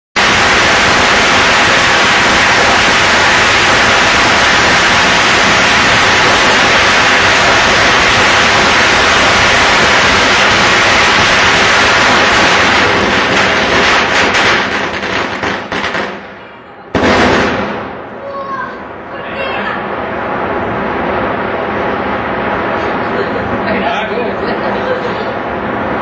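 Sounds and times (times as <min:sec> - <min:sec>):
fountain firework hissing: 0:00.2 - 0:26.0.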